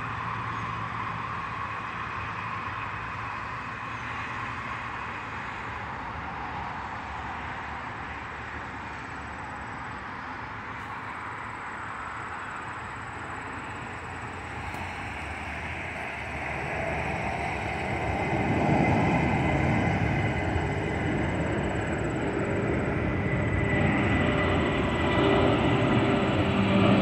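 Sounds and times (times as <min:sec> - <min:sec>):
distant jet engines roaring: 0:00.0 - 0:27.0
highway traffic: 0:00.0 - 0:27.0.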